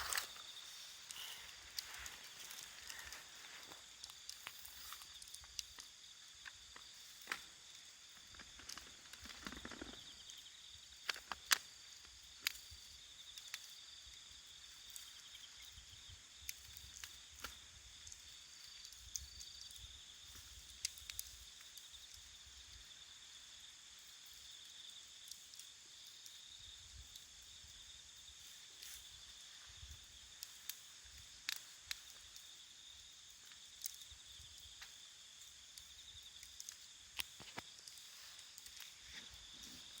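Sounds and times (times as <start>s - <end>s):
wood fire crackling: 0.0s - 22.8s, 25.1s - 40.0s
night insects trilling: 0.0s - 40.0s.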